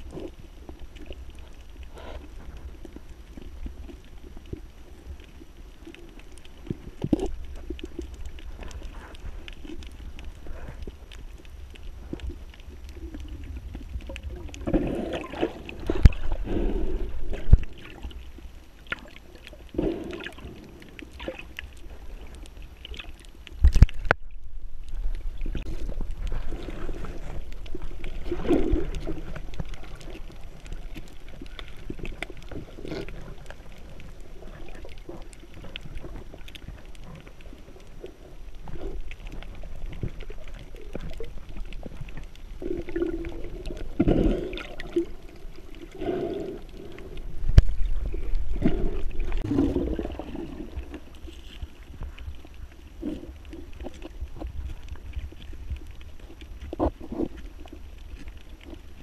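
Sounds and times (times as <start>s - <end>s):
scuba bubbles gurgling underwater: 0.0s - 59.0s.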